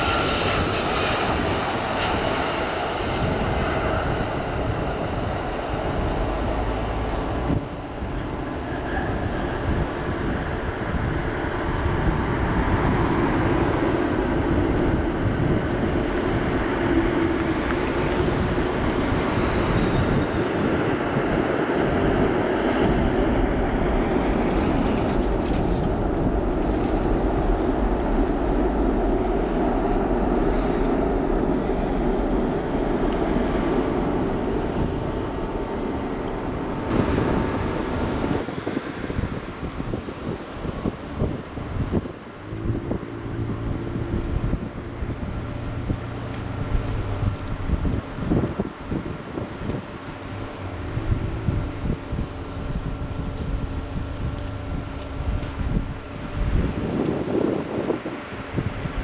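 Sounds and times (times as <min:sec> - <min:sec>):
aircraft engines roaring: 0:00.0 - 0:59.0
faint engine whines: 0:00.0 - 0:59.0.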